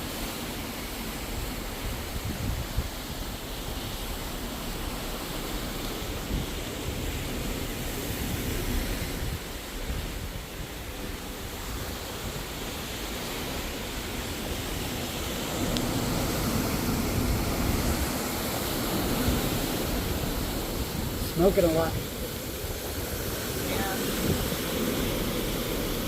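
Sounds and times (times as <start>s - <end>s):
water rushing along ship hull: 0.0s - 26.0s
wind rumble on microphone: 0.0s - 26.0s.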